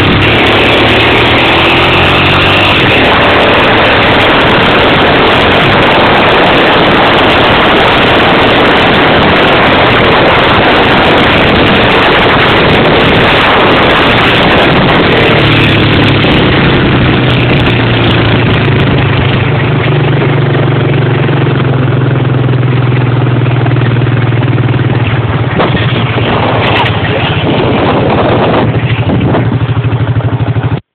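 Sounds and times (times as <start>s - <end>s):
atv engine running loud: 0.0s - 30.9s.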